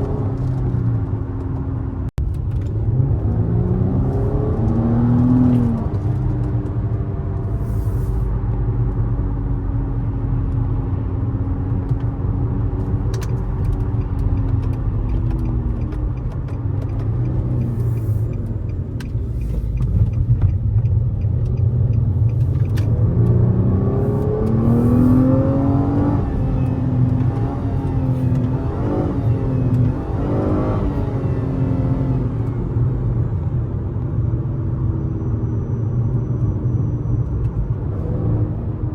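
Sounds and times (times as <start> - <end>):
car engine drone while driving: 0.0 - 38.9.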